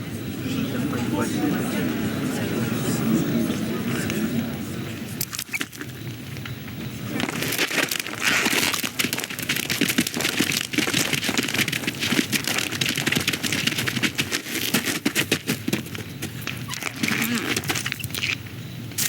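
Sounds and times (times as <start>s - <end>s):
noisy wash: 0.0s - 15.8s.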